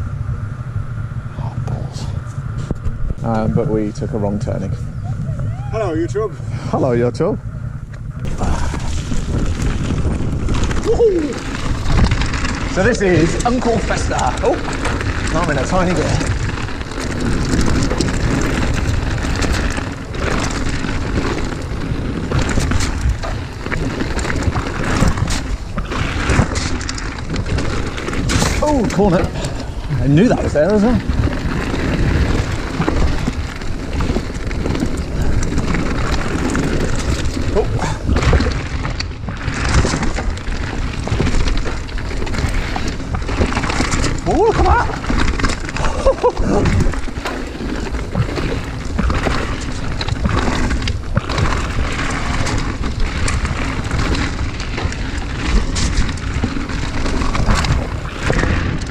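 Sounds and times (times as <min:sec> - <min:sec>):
bike rattling over stones: 0:00.0 - 0:58.9
bike tyres rolling over rocky trail: 0:00.0 - 0:58.9
wind buffeting microphone: 0:00.0 - 0:58.9.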